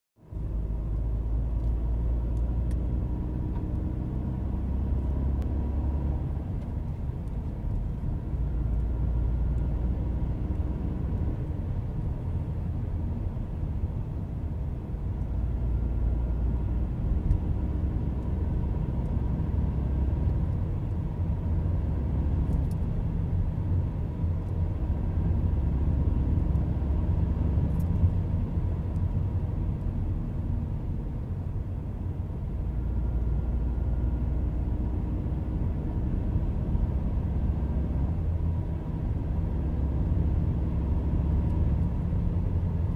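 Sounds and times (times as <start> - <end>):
car driving rumble: 0.2 - 42.9.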